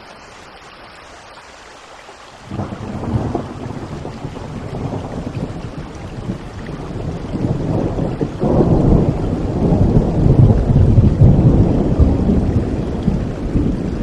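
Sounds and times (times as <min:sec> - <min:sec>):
steady rain: 0:00.0 - 0:14.0
rolling thunder: 0:02.4 - 0:14.0.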